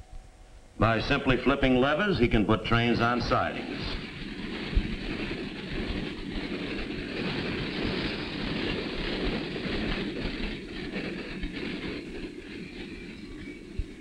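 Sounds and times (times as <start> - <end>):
train rumbling by: 0.0 - 14.0.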